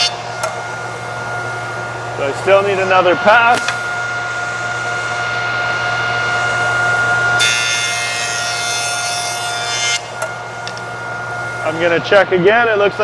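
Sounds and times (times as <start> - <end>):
jointer whining: 0.0 - 12.9.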